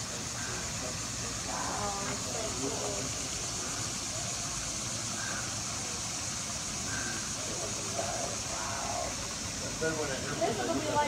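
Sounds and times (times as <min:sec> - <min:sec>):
faint voices: 0:00.0 - 0:11.0
night insects chorus: 0:00.0 - 0:11.0.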